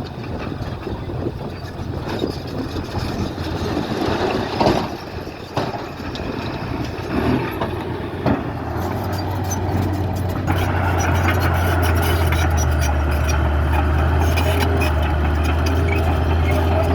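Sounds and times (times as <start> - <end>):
diesel construction machinery running: 0.0 - 16.9.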